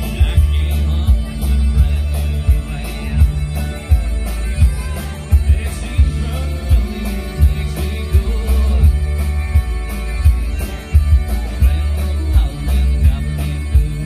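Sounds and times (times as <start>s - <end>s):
country-rock band playing: 0.0s - 14.0s.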